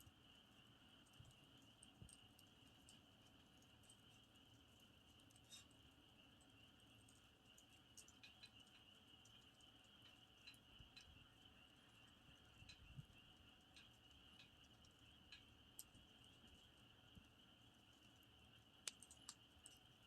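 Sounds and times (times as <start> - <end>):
campfire crackling: 0.1 - 20.0
crickets trilling: 0.1 - 20.0.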